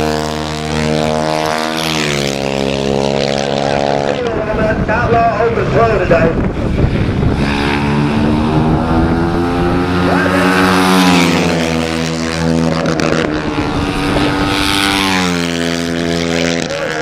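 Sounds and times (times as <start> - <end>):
racing motorcycles engines: 0.0 - 17.0.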